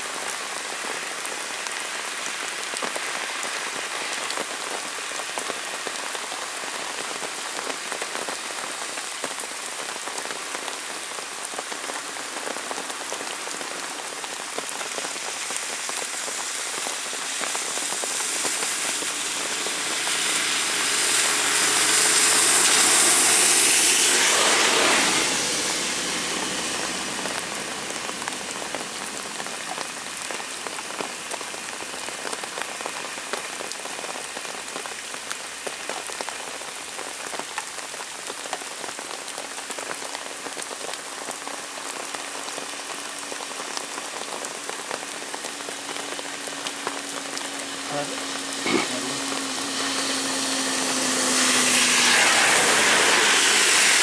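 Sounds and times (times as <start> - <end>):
heavy rain on road and foliage: 0.0 - 54.0
tyres hissing on wet road: 0.0 - 54.0.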